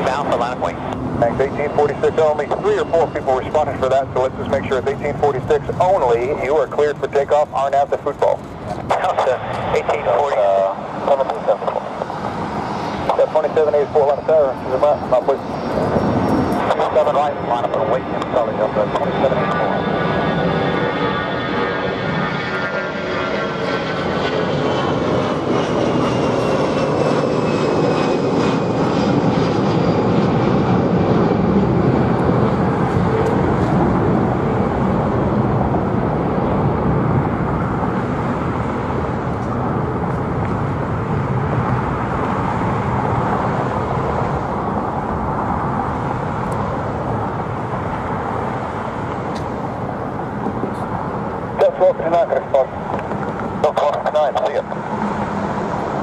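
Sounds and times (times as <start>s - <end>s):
jet engine roar and whine: 0.0s - 56.0s.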